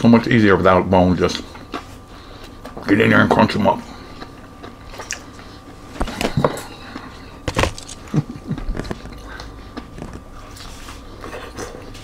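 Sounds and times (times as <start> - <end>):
soft chewing: 1.4 - 2.9, 3.8 - 12.0.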